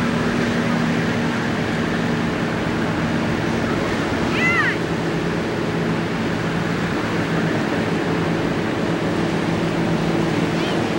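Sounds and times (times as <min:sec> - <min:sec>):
waves washing onto beach: 0:00.0 - 0:10.9.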